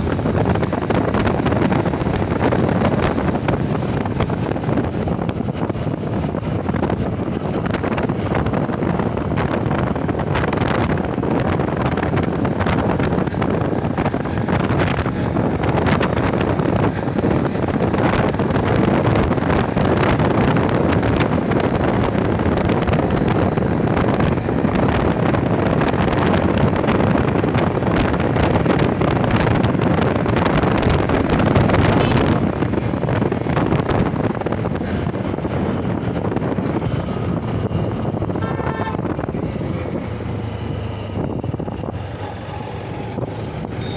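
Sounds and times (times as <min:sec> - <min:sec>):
motorcycle engine: 0:00.0 - 0:43.9
road noise: 0:00.0 - 0:43.9
wind rushing over microphone: 0:00.0 - 0:43.9.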